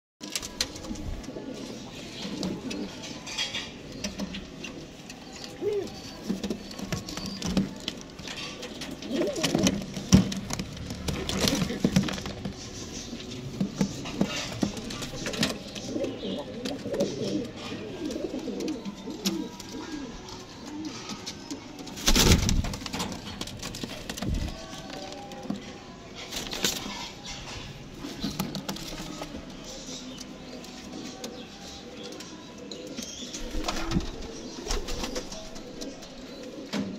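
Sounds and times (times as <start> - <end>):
pigeons cooing: 0.5 - 36.9.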